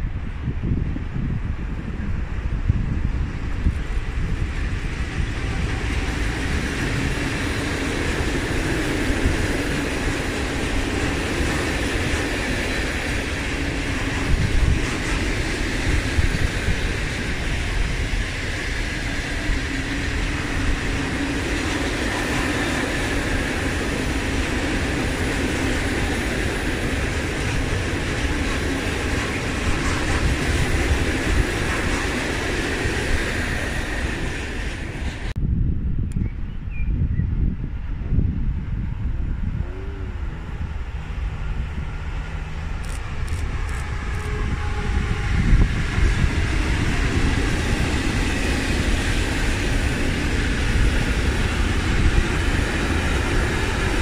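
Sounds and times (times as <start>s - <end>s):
train wheels on rails: 0.0s - 35.4s, 38.1s - 54.0s.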